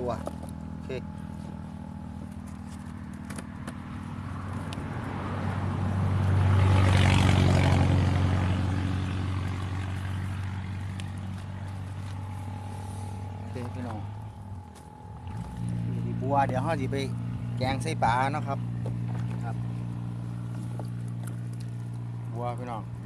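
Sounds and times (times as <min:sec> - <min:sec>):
low engine hum: 0:00.0 - 0:23.0
motor vehicle passing by: 0:00.0 - 0:23.0.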